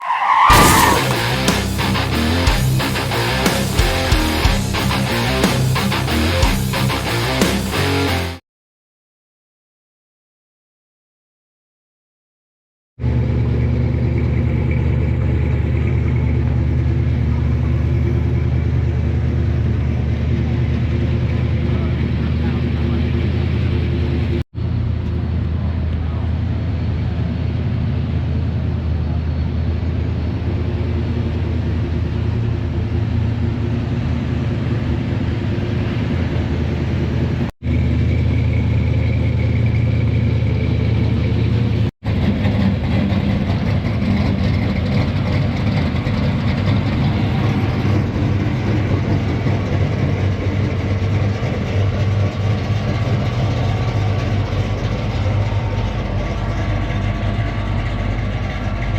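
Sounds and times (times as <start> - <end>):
car engines humming: 0.0 - 8.4, 13.0 - 58.9.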